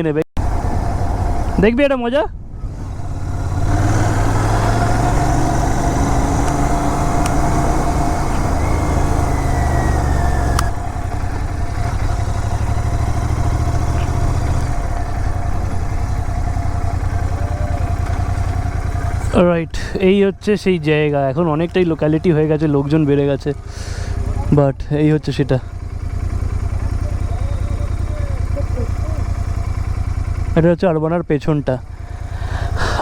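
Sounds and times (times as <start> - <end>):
road noise: 0.4 - 33.0
vehicle engine running: 0.4 - 33.0.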